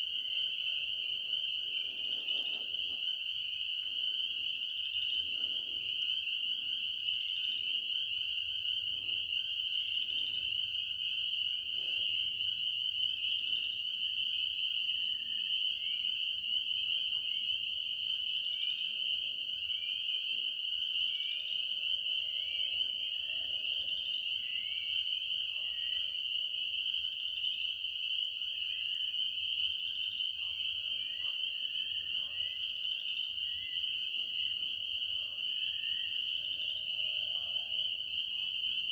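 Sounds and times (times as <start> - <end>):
frogs trilling: 0.0 - 38.9.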